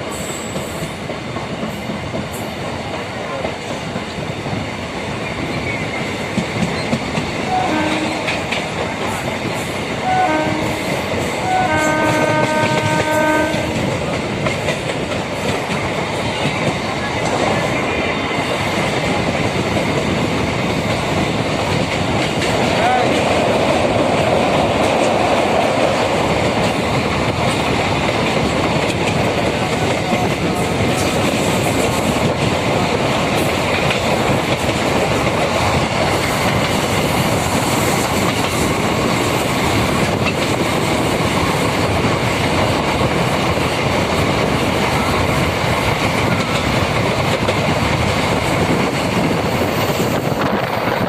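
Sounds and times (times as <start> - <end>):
train rumbling: 0.0 - 51.0.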